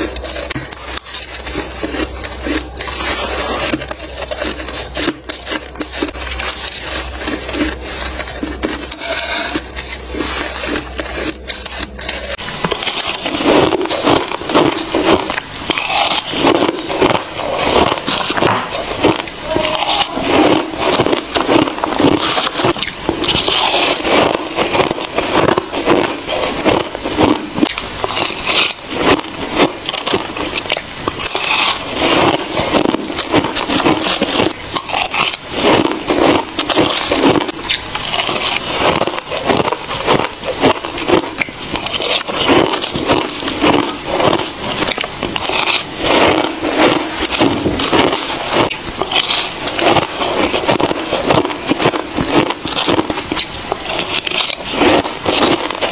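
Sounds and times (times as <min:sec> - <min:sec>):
ice crunching being chewed: 0:00.0 - 0:55.9
metal spoon scraping ice: 0:00.0 - 0:55.9.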